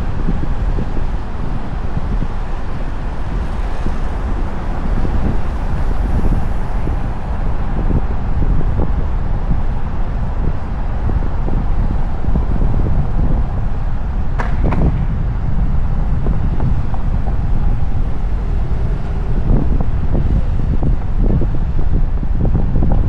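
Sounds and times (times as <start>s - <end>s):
steady deep rumble: 0.0s - 23.0s
wind buffeting microphone: 0.0s - 23.0s.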